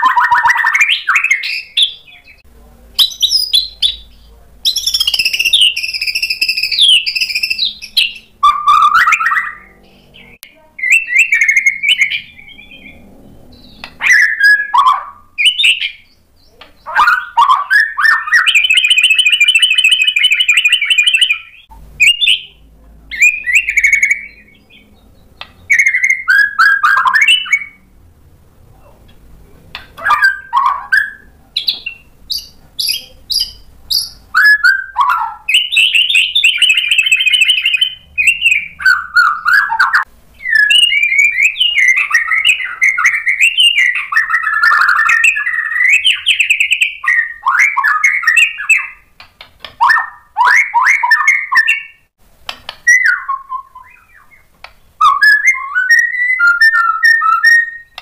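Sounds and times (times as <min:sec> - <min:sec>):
bird singing varied song: 0:00.0 - 0:27.9, 0:29.8 - 0:58.0.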